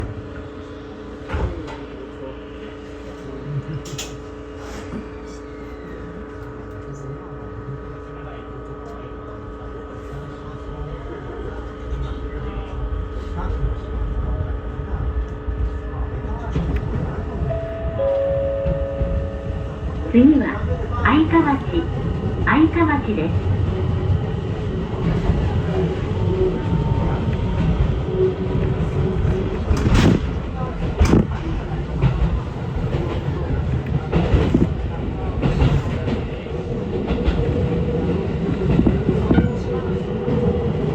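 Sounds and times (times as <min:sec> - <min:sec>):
train car hum and rumble: 0:00.0 - 0:40.9.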